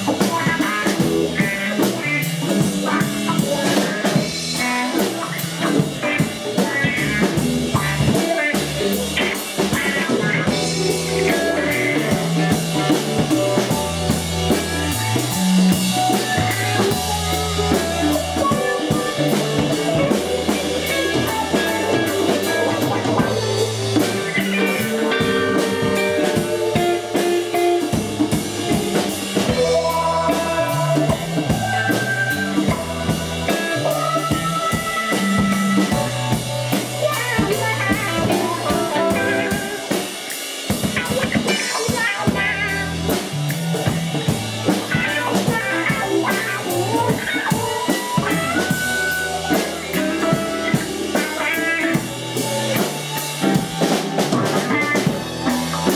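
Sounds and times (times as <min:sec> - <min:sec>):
bass guitar notes: 0:00.0 - 0:40.0, 0:40.7 - 0:55.9
drum kit: 0:00.0 - 0:55.9
electric guitar lines: 0:00.0 - 0:55.9.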